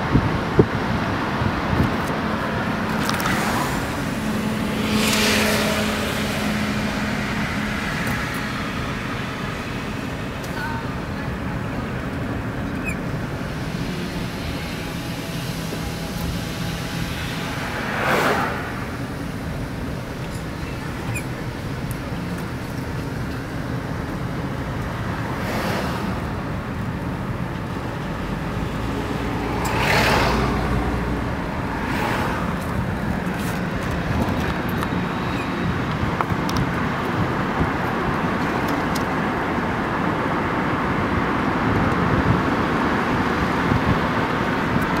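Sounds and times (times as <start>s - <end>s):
road and tyre noise: 0.0s - 45.0s
vehicles passing by: 0.0s - 45.0s.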